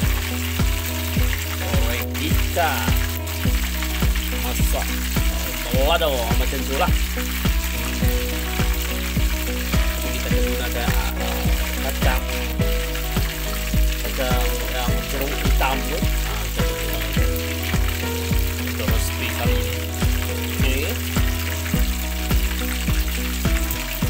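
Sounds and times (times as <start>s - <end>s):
background music with beat: 0.0s - 24.0s
fish sizzling in hot oil: 0.0s - 24.0s.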